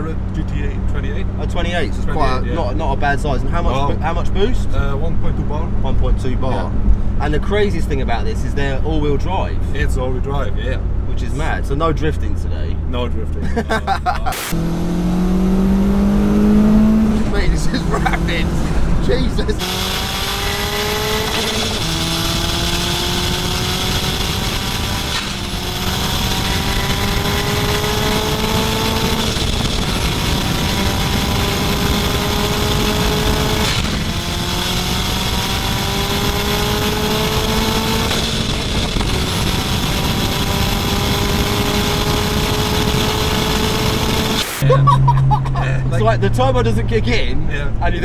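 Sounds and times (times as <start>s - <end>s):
car engine accelerating: 0.0s - 48.0s
wind and road noise: 0.0s - 48.0s.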